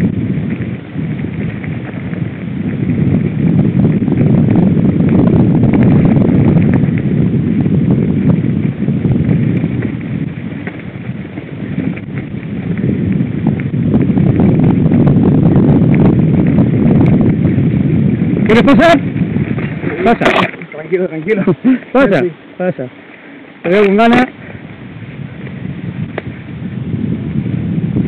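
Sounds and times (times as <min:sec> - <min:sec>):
mountain bike rattling on dirt trail: 0:00.0 - 0:28.0
wind buffeting microphone: 0:00.0 - 0:28.0.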